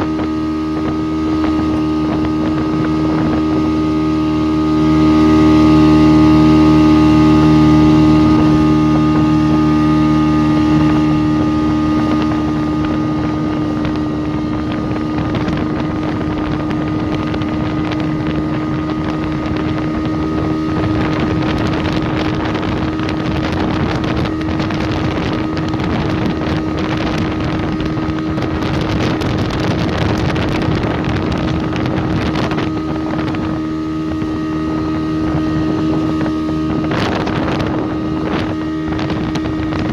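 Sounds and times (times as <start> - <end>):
motorboat engine: 0.0 - 39.9
rushing water: 0.0 - 39.9
wind buffeting microphone: 0.0 - 39.9.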